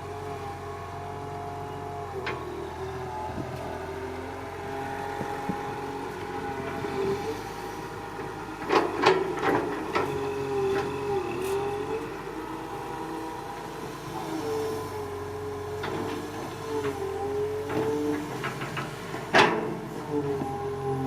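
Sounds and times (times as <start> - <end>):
excavator engine and hydraulics whine: 0.0 - 21.0.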